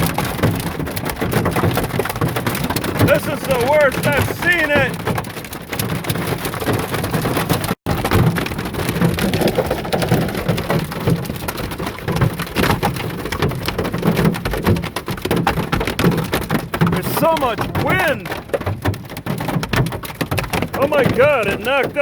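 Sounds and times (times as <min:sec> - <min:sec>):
hail and rain pelting car roof: 0:00.0 - 0:22.0.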